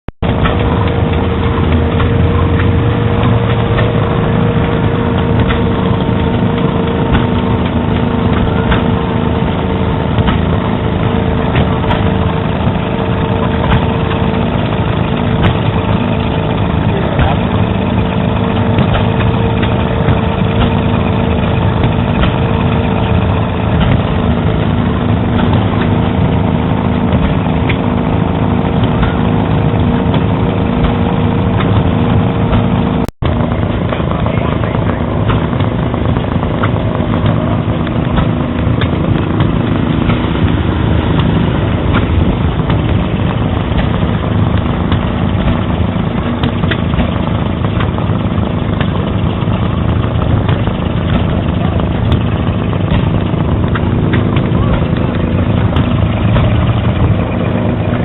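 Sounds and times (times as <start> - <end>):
model engines running: 0.2 - 58.0.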